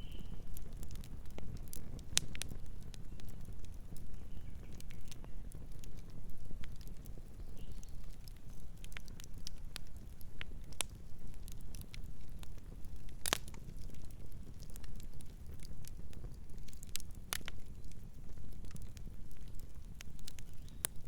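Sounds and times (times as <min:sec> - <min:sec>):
campfire crackles and pops: 0:00.0 - 0:21.0
low rumble of flames: 0:00.0 - 0:21.0.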